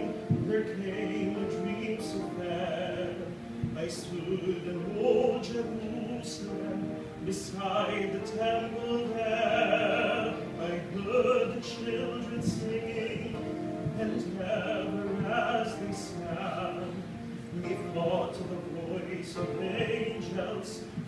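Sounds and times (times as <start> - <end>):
man singing slow song: 0.0 - 21.0.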